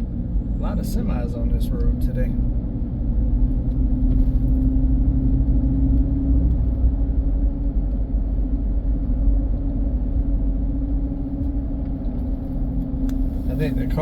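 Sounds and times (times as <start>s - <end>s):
road and engine rumble in car: 0.0s - 14.0s.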